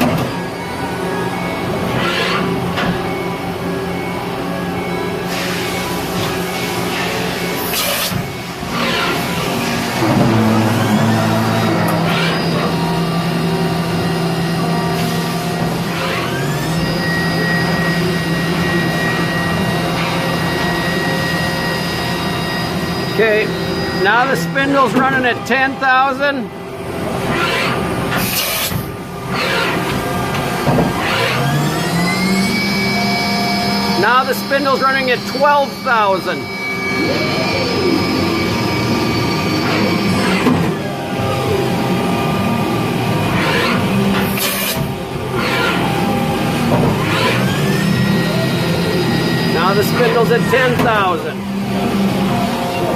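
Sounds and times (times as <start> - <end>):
machine hum: 0.0 - 52.9
mill spindle whine: 0.0 - 52.9.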